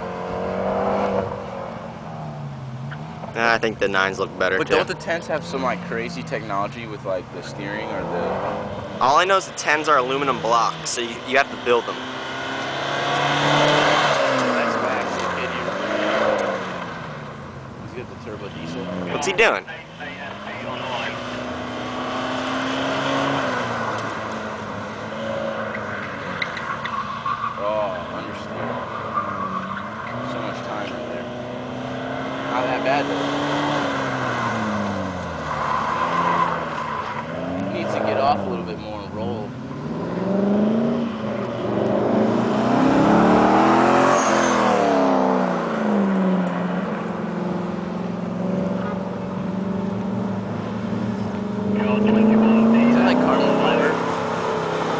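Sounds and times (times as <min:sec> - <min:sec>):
diesel car engine revving: 0:00.0 - 0:54.9.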